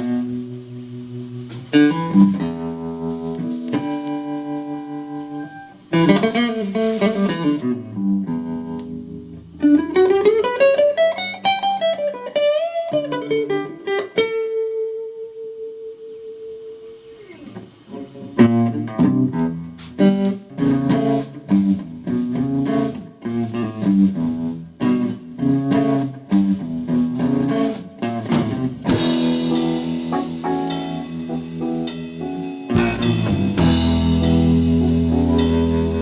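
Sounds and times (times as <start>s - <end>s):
blues band playing: 0.0s - 14.9s, 17.3s - 36.0s.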